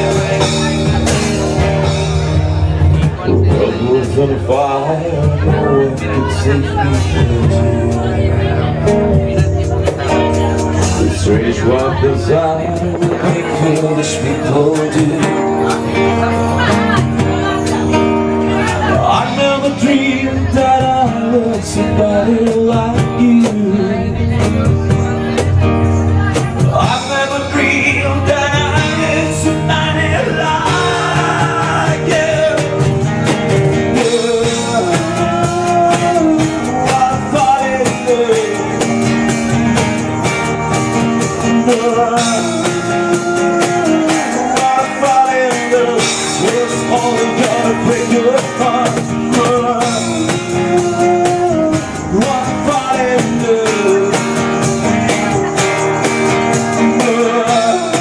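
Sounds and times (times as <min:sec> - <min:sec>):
man singing: 0:00.0 - 0:58.0.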